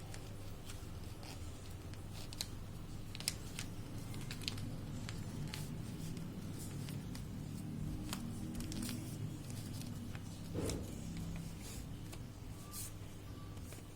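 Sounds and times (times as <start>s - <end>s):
paper rustling and crinkling: 0.0s - 13.9s.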